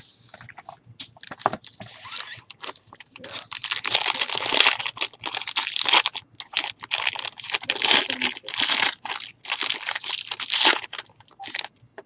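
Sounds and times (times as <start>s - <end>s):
plastic wrapper crinkling: 1.2s - 11.8s.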